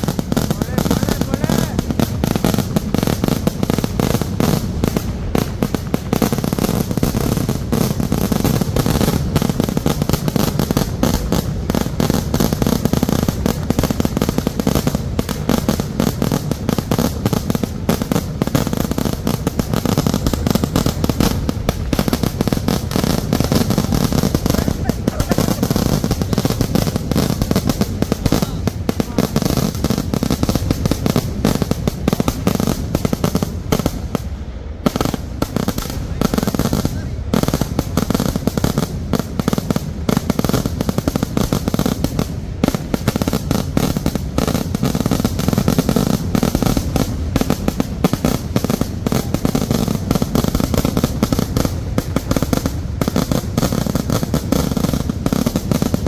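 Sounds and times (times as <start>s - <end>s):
fireworks bangs and crackle: 0.0s - 56.0s.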